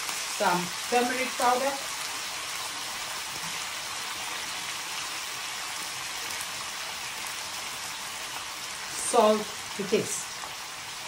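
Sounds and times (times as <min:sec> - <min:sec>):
potatoes frying in oil: 0:00.0 - 0:11.0.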